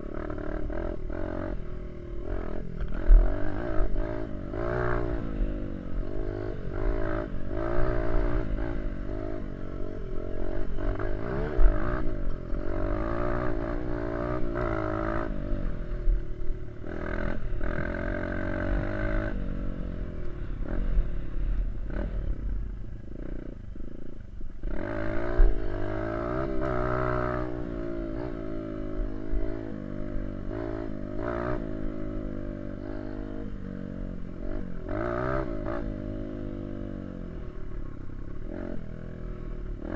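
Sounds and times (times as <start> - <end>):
dirt bike engine revving: 0.0 - 22.4, 24.6 - 39.9.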